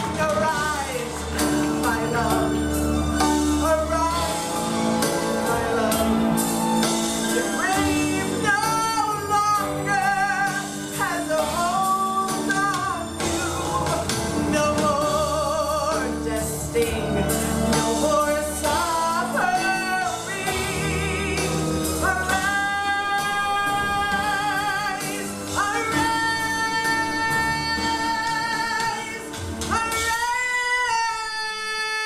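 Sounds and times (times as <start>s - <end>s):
instrumental backing: 0.0s - 32.0s.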